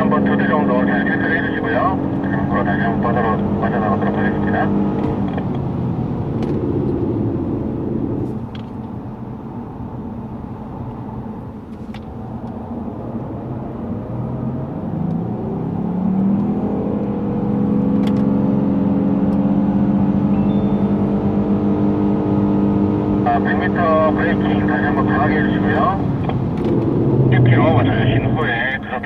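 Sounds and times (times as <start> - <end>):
car engine accelerating: 0.0 - 9.0, 12.2 - 29.0.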